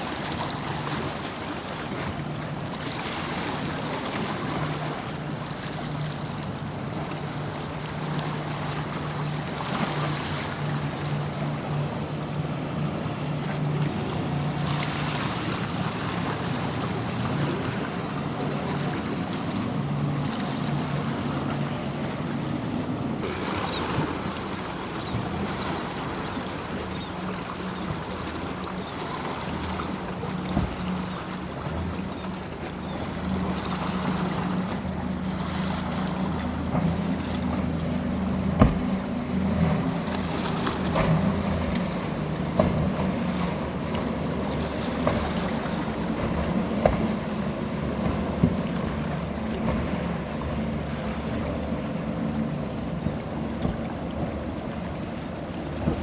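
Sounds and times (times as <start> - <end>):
boat engine droning: 0.0 - 56.0
surf washing: 0.0 - 56.0
wind: 0.0 - 56.0.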